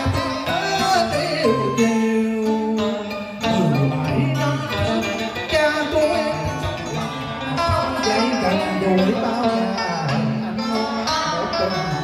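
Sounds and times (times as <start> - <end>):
man singing: 0.0 - 12.0
plucked string instruments: 0.0 - 12.0.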